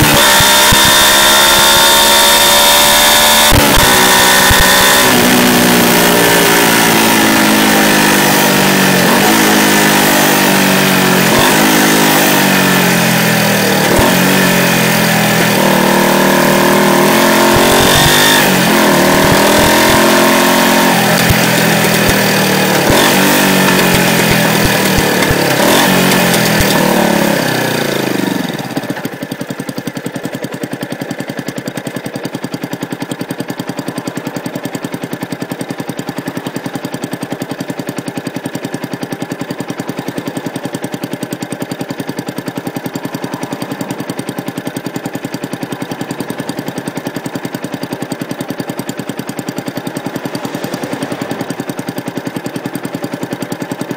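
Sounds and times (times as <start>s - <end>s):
motorcycle engine idling: 0.0s - 53.9s
motorcycle engine revving: 0.0s - 53.9s.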